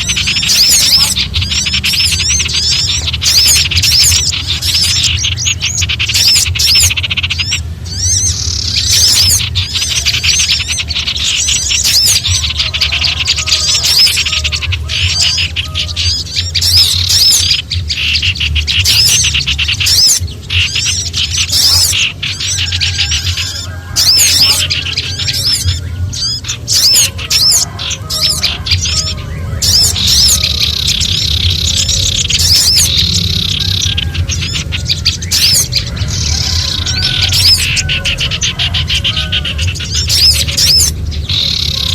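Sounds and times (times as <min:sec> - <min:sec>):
songbirds chattering in alarm: 0:00.0 - 0:41.9
steady low hum: 0:00.0 - 0:41.9.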